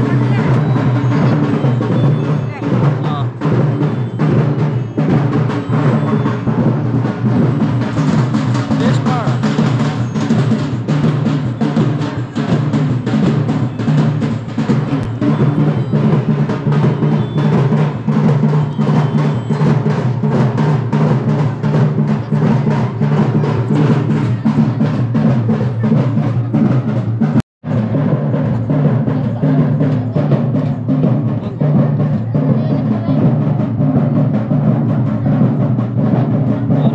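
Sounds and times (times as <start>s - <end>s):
fast even drumbeat: 0.0s - 36.9s.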